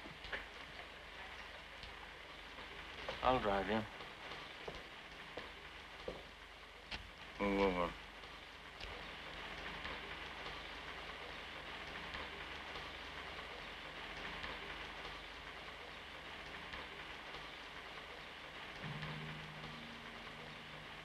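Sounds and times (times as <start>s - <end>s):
faint crackle: 0.0s - 21.0s
steady low hiss: 0.0s - 21.0s
thin background hum: 0.0s - 21.0s.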